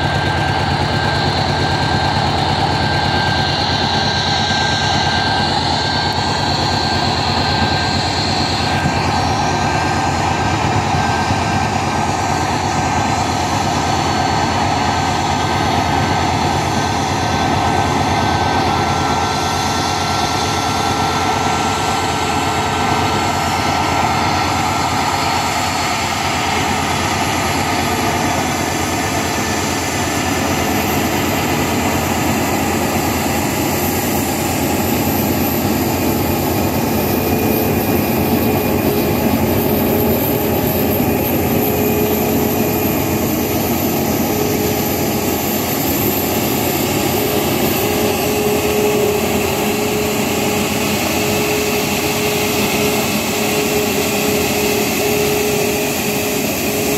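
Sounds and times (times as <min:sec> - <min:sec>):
high thin whine: 0:00.0 - 0:56.9
jet engines whining and rumbling: 0:00.0 - 0:56.9.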